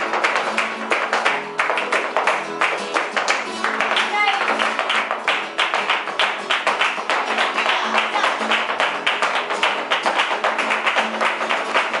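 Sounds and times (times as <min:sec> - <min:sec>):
flamenco guitar: 0:00.0 - 0:12.0
hand clapping: 0:00.0 - 0:12.0.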